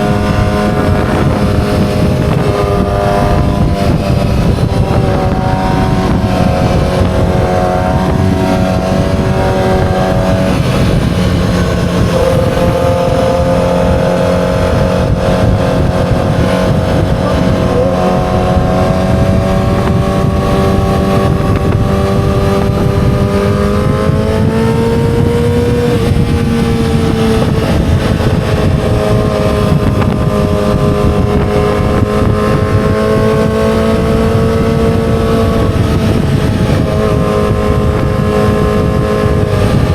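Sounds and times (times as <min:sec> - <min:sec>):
motorcycle engine at steady revs: 0:00.0 - 0:39.9
wind rumble: 0:00.0 - 0:39.9.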